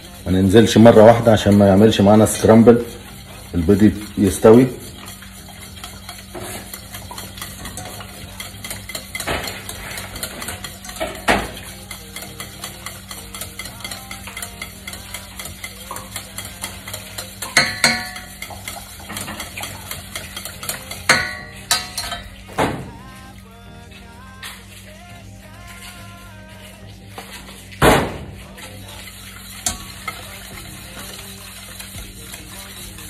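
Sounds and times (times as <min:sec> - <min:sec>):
whisk knocking against pan: 0:00.0 - 0:23.0, 0:26.7 - 0:33.0
whisk clattering in metal pan: 0:00.0 - 0:33.0.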